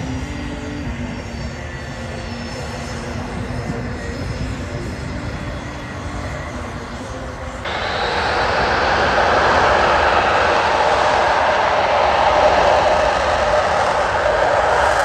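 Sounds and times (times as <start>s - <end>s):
jet engine running: 0.0s - 15.0s.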